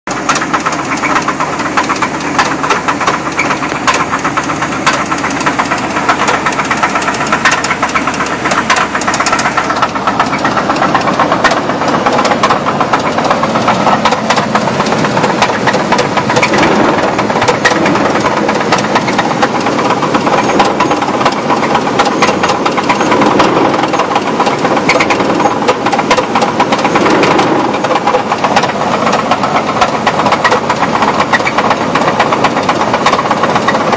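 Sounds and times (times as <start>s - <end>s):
car engine running: 0.1s - 33.9s
rapid engine knock: 0.1s - 33.9s.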